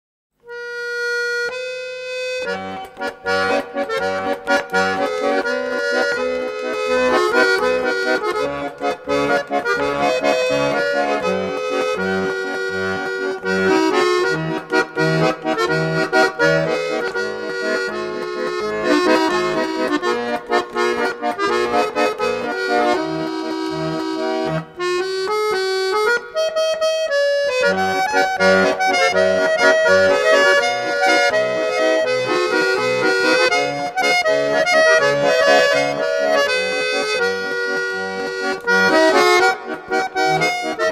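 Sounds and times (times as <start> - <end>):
instrumental music with bass beat: 0.4 - 40.9.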